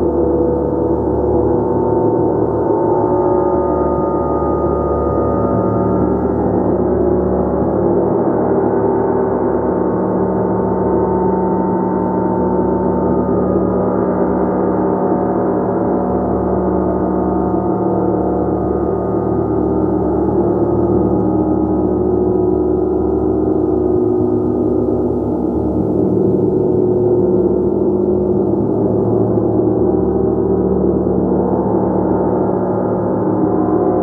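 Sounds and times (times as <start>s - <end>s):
sustained gong tone: 0.0s - 34.0s.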